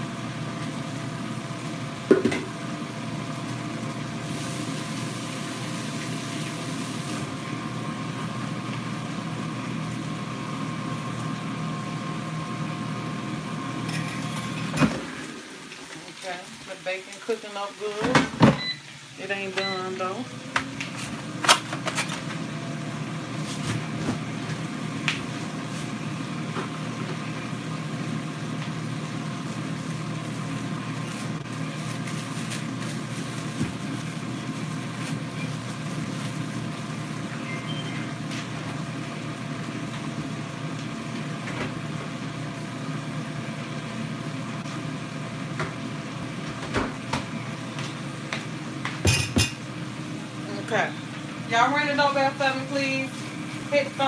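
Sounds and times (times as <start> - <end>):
air fryer fan whirring: 0.0 - 54.0.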